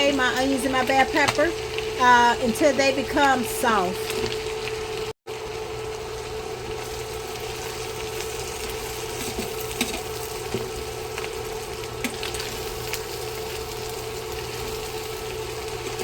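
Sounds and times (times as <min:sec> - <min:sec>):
food sizzling in oil in a pan: 0:00.0 - 0:16.0
steady hum: 0:00.0 - 0:16.0.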